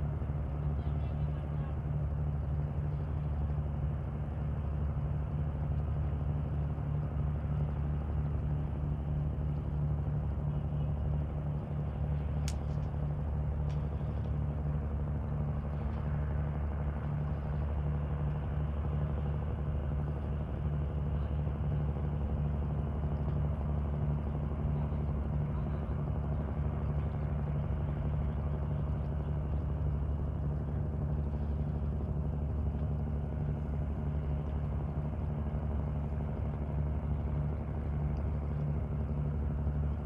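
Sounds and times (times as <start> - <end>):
engine drone: 0.0 - 40.0.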